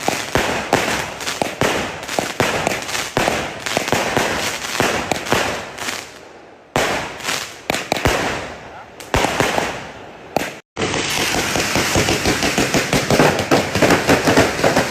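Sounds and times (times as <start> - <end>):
firecracker bangs: 0.0 - 5.8, 6.7 - 14.9
firecracker crackle: 0.0 - 14.9.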